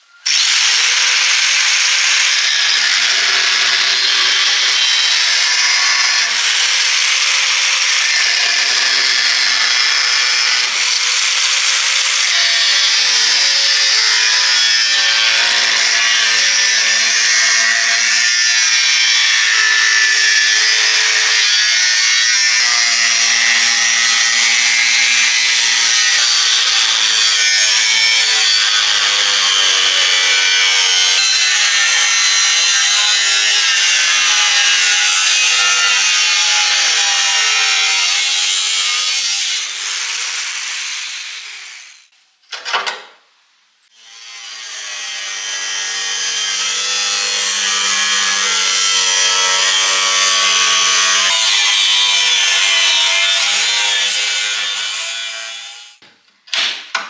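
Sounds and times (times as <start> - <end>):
power tool grinding steel: 0.2 - 42.1, 44.0 - 56.0.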